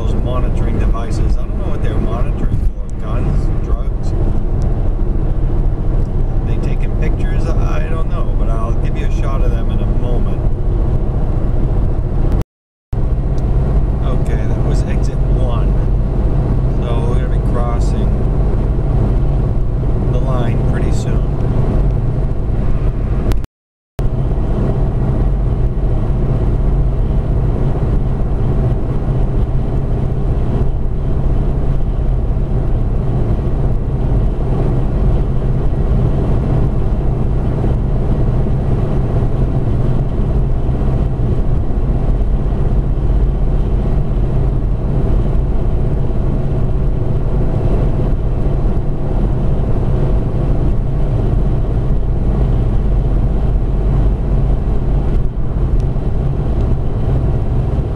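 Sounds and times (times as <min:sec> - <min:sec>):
car cabin drone at highway speed: 0:00.0 - 0:12.4, 0:13.0 - 0:57.9.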